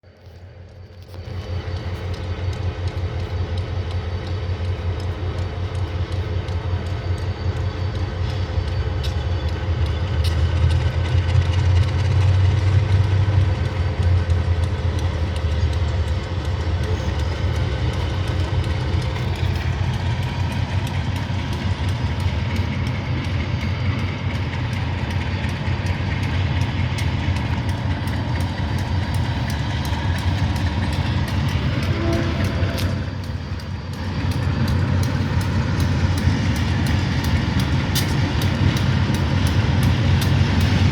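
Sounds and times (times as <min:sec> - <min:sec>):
locomotive engine droning: 0:00.0 - 0:40.9.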